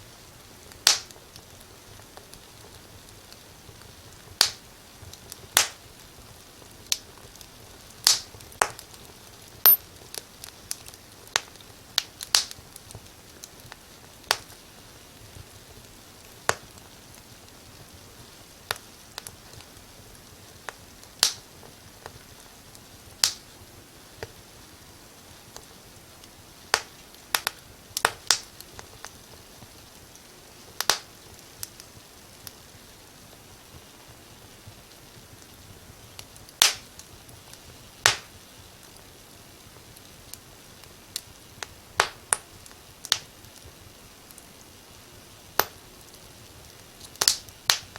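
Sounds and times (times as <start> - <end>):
faint steady hiss: 0.0 - 47.9
firewood crackling and popping: 0.0 - 47.9.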